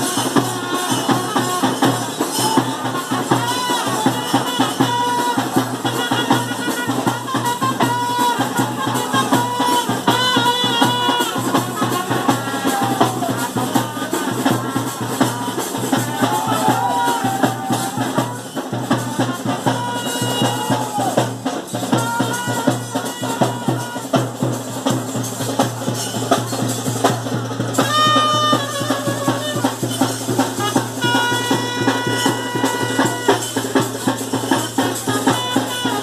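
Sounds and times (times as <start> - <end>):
drums in fast dense rhythm: 0.0 - 36.0.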